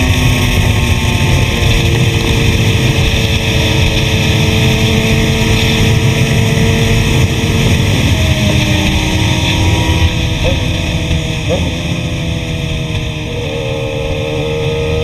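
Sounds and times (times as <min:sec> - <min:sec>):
motorcycle engine cruising: 0:00.0 - 0:15.0
wind rumble on microphone: 0:00.0 - 0:15.0.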